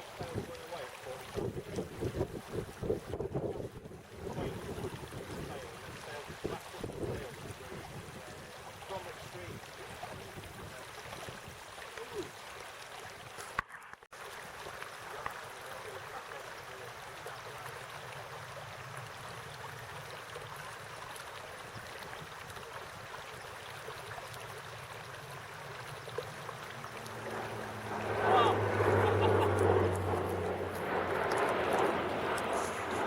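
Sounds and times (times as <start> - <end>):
stream water running: 0.0 - 33.0.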